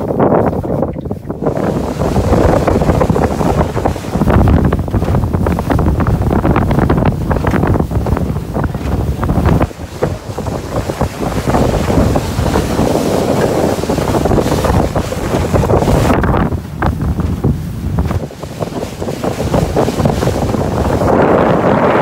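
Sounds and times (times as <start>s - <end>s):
outboard motor running: 0.0s - 22.0s
rushing water: 0.0s - 22.0s
wind buffeting microphone: 0.0s - 22.0s.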